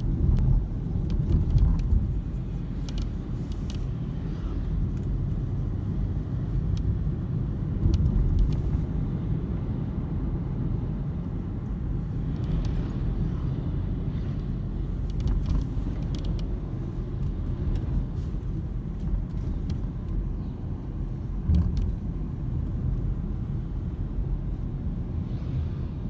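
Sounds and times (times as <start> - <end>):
road rumble inside car: 0.0 - 26.0.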